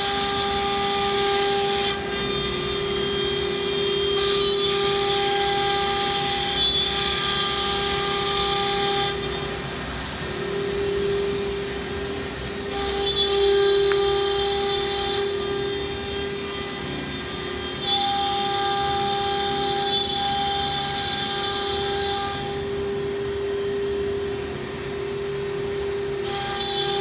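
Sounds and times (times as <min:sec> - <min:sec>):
router spindle whining: 0:00.0 - 0:27.0
higher brighter whine: 0:01.9 - 0:27.0.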